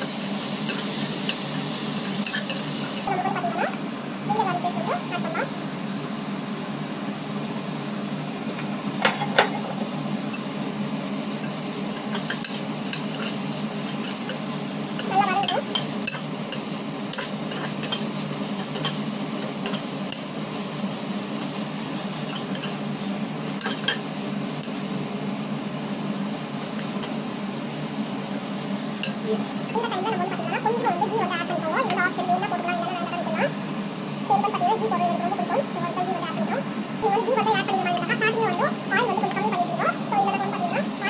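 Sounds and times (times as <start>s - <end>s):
onions sizzling in hot oil: 0.0s - 41.0s.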